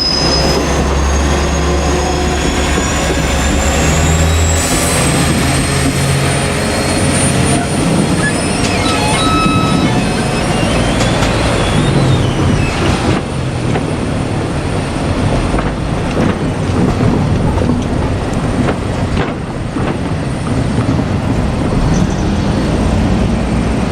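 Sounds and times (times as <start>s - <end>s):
diesel train running past: 0.0s - 23.9s
wheels clacking on rail joints: 0.0s - 23.9s.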